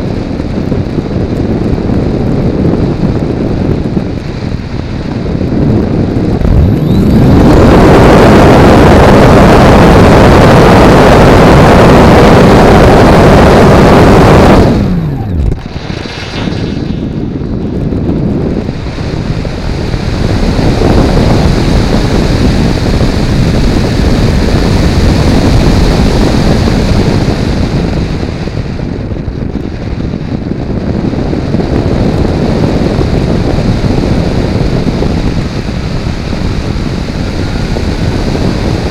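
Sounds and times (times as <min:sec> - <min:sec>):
air rushing over camera: 0:00.0 - 0:38.9
electric motor and propeller whine: 0:00.0 - 0:38.9.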